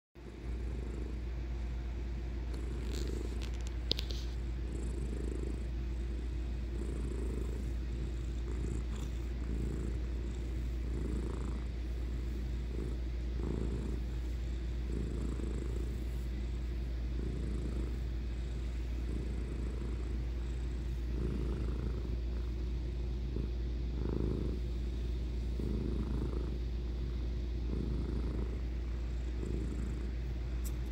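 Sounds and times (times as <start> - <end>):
cat purring: 0.2 - 30.9.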